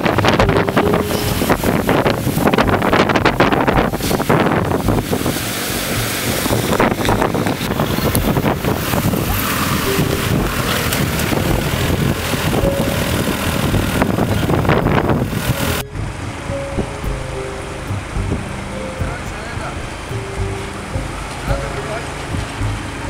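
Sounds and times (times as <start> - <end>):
off-road vehicle engines running: 0.0 - 23.0
tyres splashing through water: 0.0 - 23.0
wind buffeting microphone: 0.0 - 23.0.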